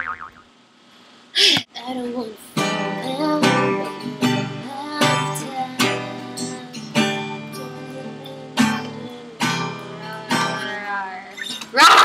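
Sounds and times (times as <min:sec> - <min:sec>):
acoustic guitar strummed chords: 0:01.9 - 0:11.8.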